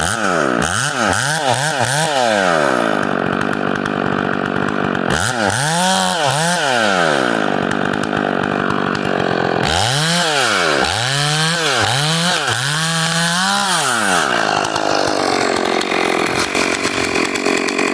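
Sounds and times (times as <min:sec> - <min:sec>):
chainsaw revving: 0:00.0 - 0:17.9.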